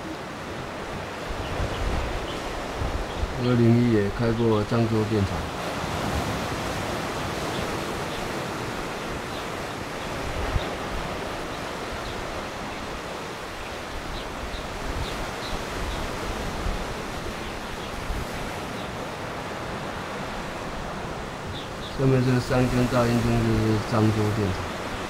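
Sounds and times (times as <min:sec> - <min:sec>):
wind rumble on microphone: 0:00.0 - 0:04.6, 0:05.3 - 0:22.0
sea surf: 0:00.0 - 0:25.0.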